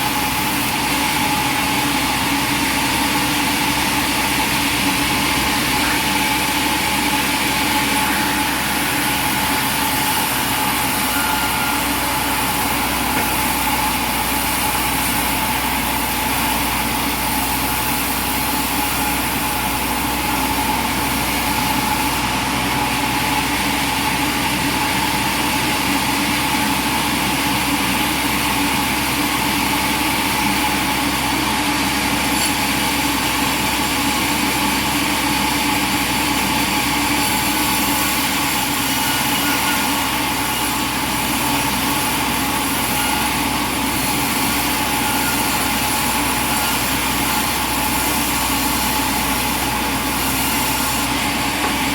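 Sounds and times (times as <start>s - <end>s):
sawmill machinery droning: 0.0s - 51.9s.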